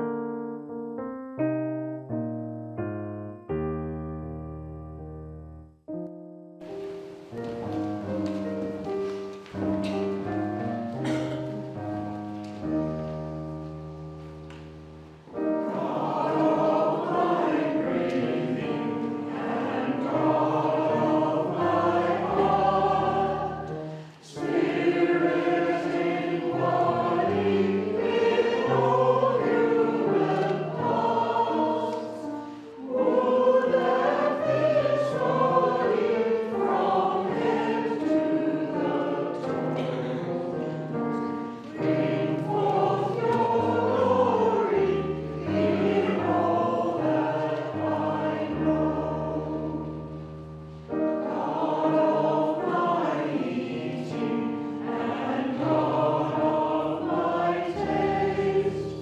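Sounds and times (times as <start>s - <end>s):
congregation singing a hymn: 6.7s - 59.0s.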